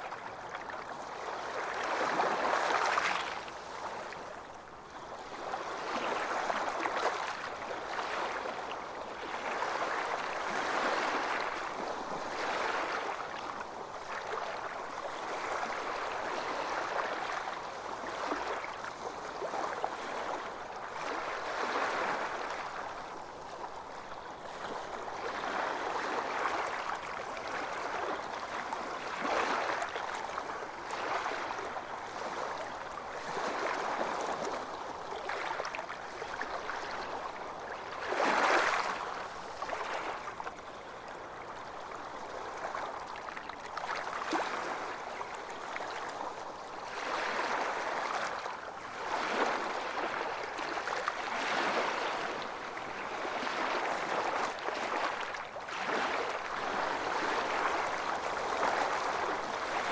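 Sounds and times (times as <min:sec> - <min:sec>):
small waves washing onto beach: 0:00.0 - 0:59.9.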